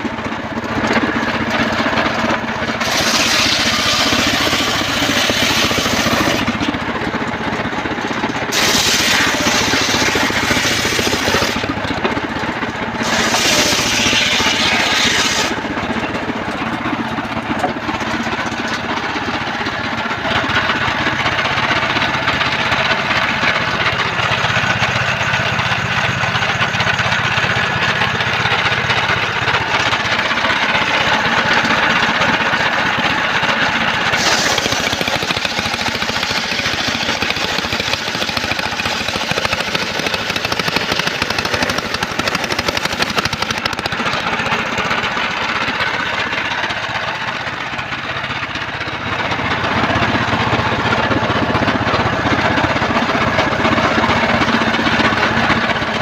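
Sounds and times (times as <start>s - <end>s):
circular sawmill cutting timber: 0.0s - 56.0s.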